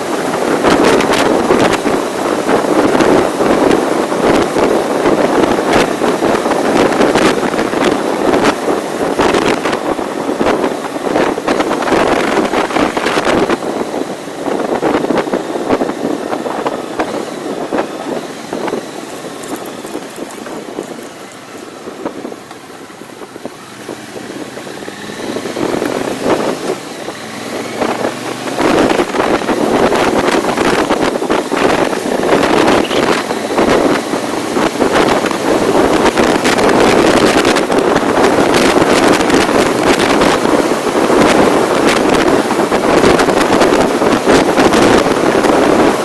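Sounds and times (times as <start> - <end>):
vehicle running noise: 0.0 - 46.0
wind rushing over microphone: 0.0 - 46.0.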